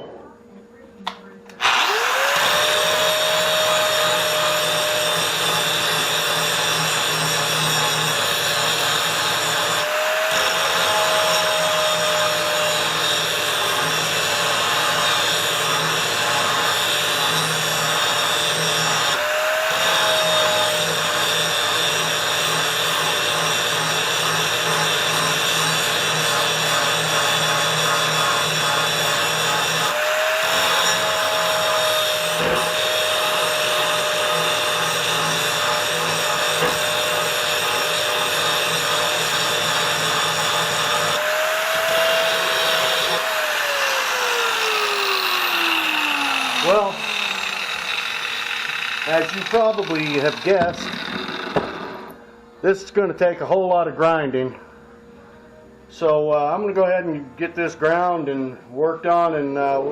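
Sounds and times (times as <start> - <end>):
angle grinder grinding steel: 1.5 - 52.2.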